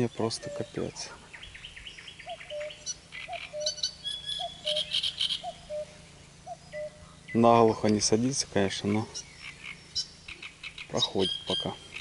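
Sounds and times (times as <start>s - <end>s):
birdsong chirps: 0.0s - 12.0s.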